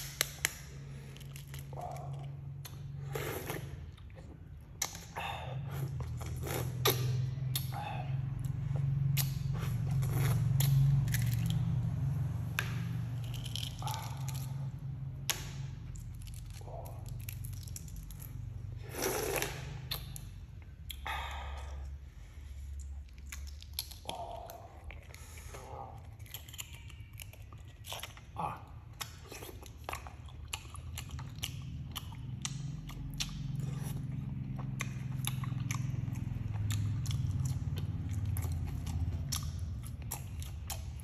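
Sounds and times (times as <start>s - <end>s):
person chewing with crunches: 0.0s - 41.0s
steady low hum: 0.0s - 41.0s.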